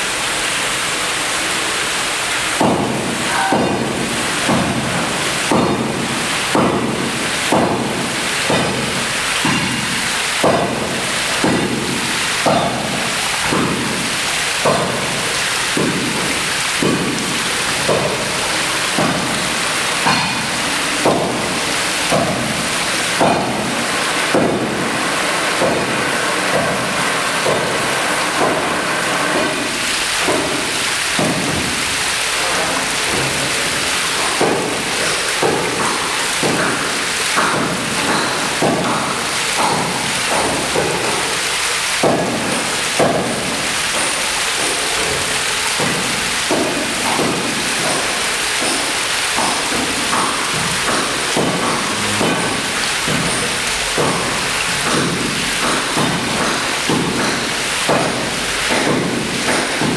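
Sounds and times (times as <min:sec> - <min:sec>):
water splashing into a pool: 0:00.0 - 0:59.9
waterfall rushing over rocks: 0:00.0 - 0:59.9.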